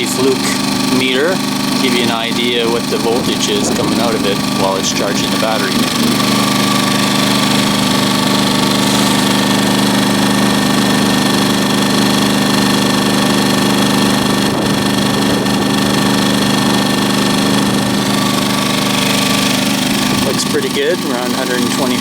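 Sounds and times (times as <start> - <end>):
generator engine running: 0.0 - 22.0.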